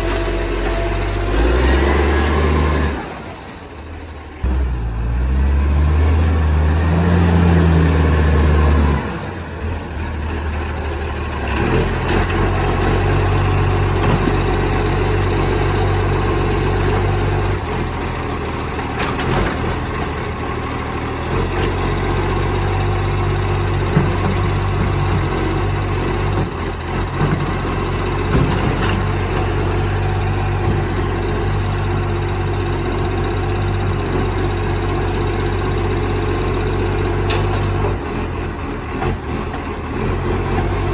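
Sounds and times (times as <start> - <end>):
diesel engine running loud: 0.0 - 40.9.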